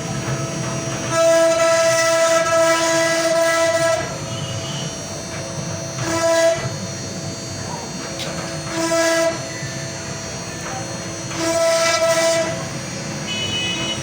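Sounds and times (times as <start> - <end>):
router spindle whining: 0.0 - 14.0.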